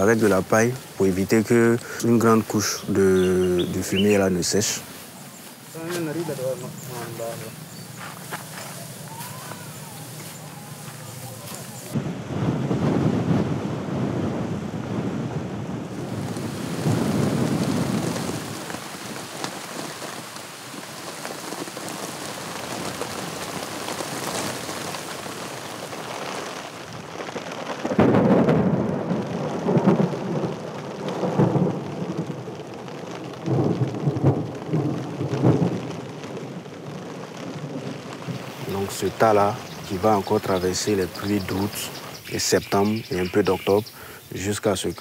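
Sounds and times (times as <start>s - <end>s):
thunder rumbling: 0.0s - 5.0s, 8.8s - 44.1s
steady rain falling: 0.0s - 45.0s.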